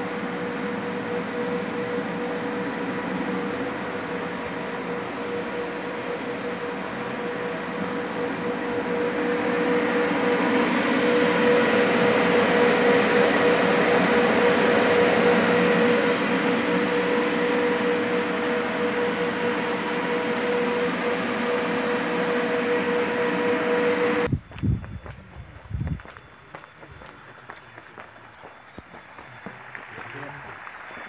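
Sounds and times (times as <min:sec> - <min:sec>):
cooling fans rushing: 0:00.0 - 0:31.0
electrical whine: 0:00.0 - 0:31.0.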